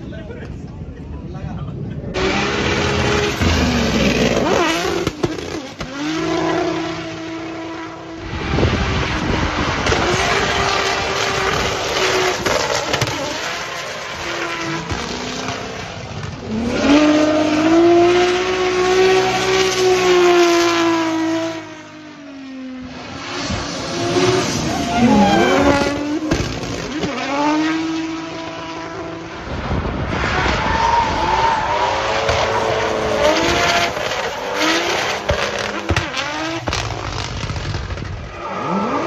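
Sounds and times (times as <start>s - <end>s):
car engine revving hard: 2.2s - 21.8s, 23.0s - 39.0s.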